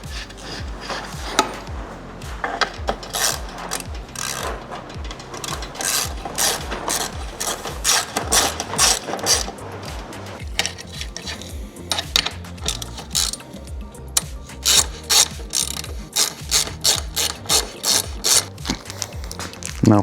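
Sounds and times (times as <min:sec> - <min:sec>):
bicycle pedal scraping and ratcheting: 0:00.0 - 0:19.8
background music with beat: 0:00.0 - 0:20.0.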